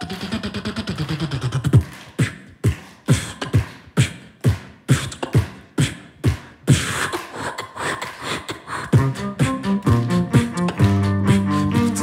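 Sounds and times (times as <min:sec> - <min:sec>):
beatboxing bass kicks: 0:00.0 - 0:12.0.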